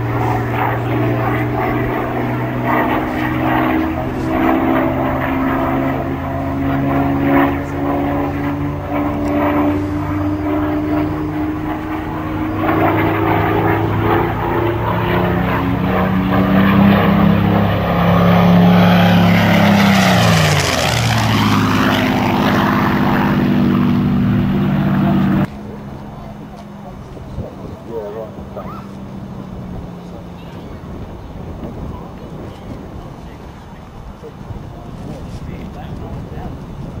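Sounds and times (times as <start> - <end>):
aircraft engine passing by: 0.0 - 37.0.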